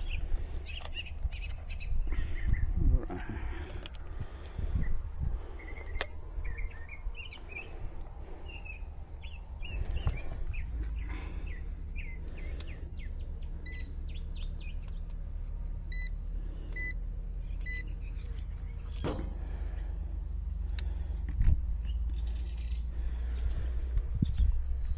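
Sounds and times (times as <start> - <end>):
small birds chirping: 0.0 - 24.9
steady low hum: 0.0 - 24.9.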